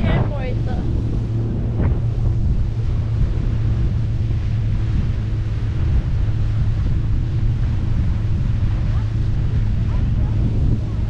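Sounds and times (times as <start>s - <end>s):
boat engine drone: 0.0s - 11.0s
water rushing: 0.0s - 11.0s
wind buffeting microphone: 0.0s - 11.0s.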